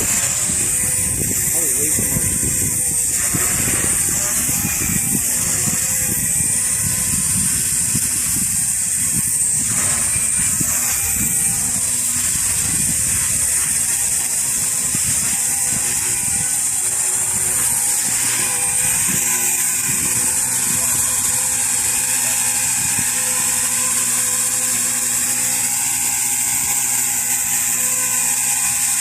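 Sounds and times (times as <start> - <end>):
wind buffeting microphone: 0.0 - 25.4.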